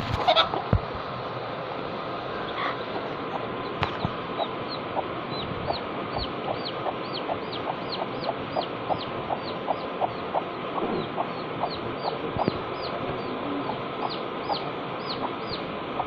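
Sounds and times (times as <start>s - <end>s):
chick peeping: 0.0s - 0.7s, 2.4s - 16.0s
hen clucking: 0.0s - 0.8s, 2.4s - 16.0s.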